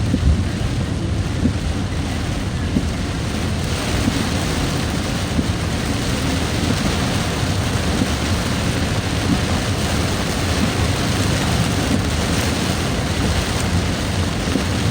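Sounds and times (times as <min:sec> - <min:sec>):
rain hissing on wet road: 0:00.0 - 0:14.9
vehicle rumbling: 0:00.0 - 0:14.9.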